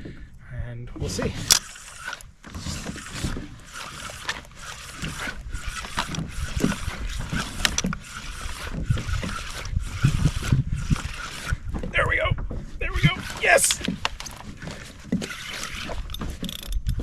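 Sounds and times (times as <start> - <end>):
water splashing against hull: 1.0 - 17.0.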